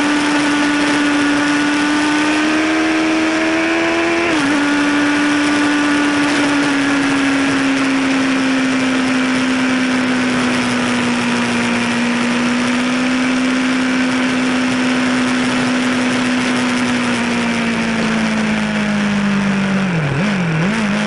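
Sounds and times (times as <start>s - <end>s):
motorcycle engine at high revs: 0.0s - 21.0s
wind rush: 0.0s - 21.0s.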